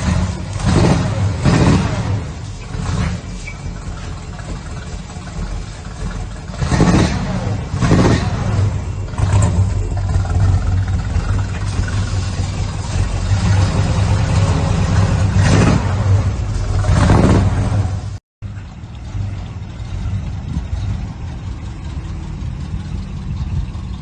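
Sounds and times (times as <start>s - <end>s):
engine idling and revving: 0.0s - 24.0s.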